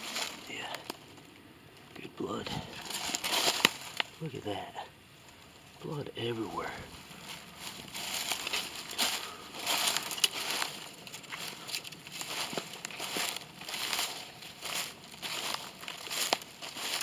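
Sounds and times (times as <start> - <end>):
footsteps crunching through dry leaves: 0.0 - 1.3, 2.2 - 17.0
twigs snapping: 0.0 - 4.3, 6.9 - 17.0.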